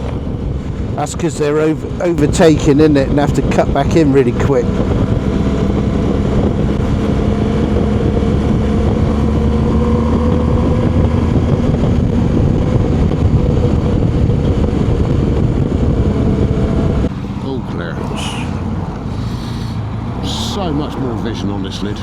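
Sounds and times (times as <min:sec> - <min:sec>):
motorcycle engine cruising: 0:00.0 - 0:22.0
wind rushing over microphone: 0:00.0 - 0:22.0.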